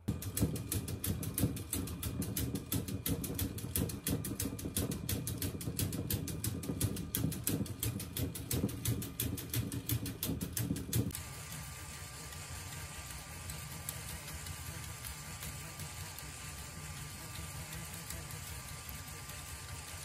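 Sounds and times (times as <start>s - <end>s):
rapid even clicking: 0.0s - 20.0s
steady motor hum: 0.0s - 20.0s.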